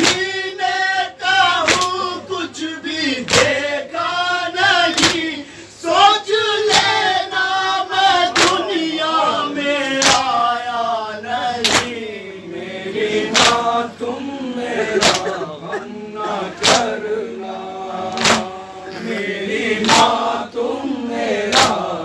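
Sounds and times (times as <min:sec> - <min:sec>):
male voices chanting in chorus: 0:00.0 - 0:22.0.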